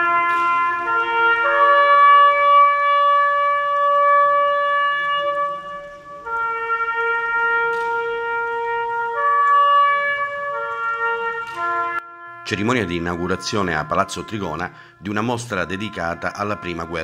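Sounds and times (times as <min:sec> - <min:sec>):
trumpet playing long notes: 0:00.0 - 0:17.0.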